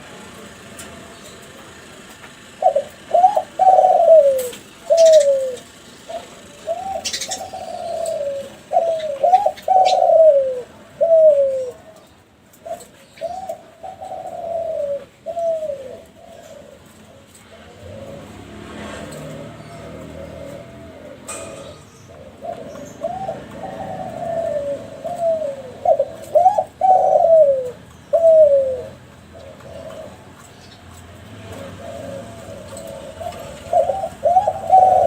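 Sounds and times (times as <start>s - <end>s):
dove cooing: 0.8s - 35.0s.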